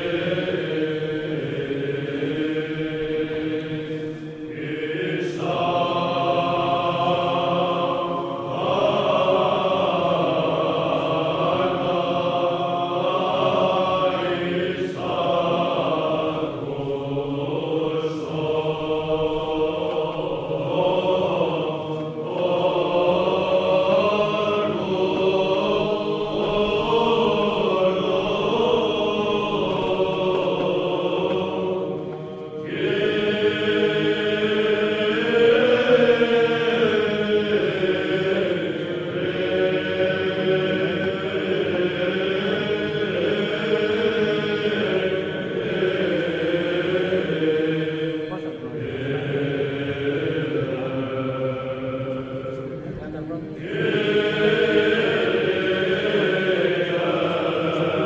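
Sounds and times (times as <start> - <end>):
voices chanting slow melody: 0.0 - 58.0.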